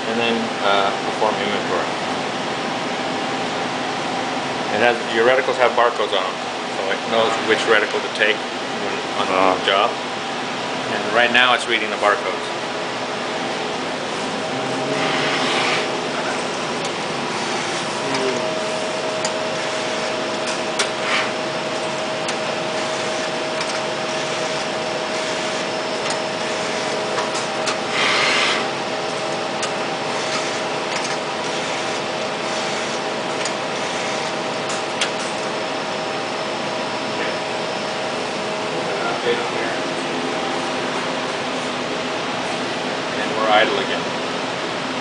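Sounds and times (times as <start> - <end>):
air handling and fan noise: 0.0 - 45.0
steady hum tone: 0.0 - 45.0.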